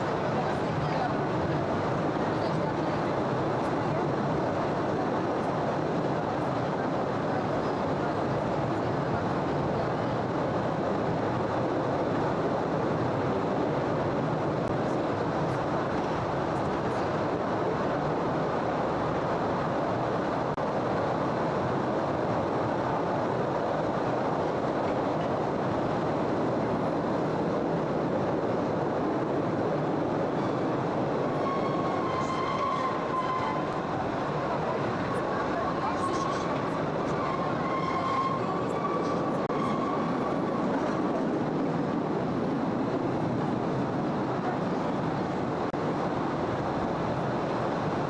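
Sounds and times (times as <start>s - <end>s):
train wheels on rails: 0.0s - 48.0s.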